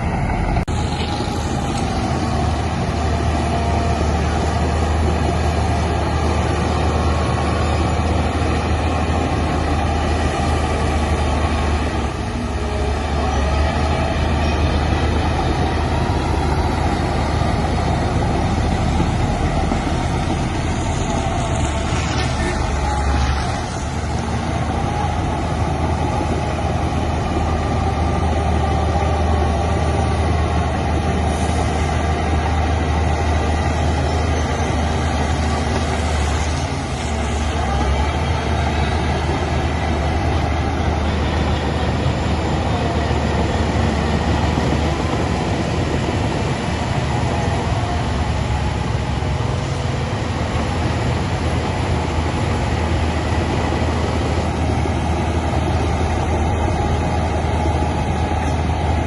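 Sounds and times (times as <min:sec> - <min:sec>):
heavy diesel engine humming: 0:00.0 - 0:59.0.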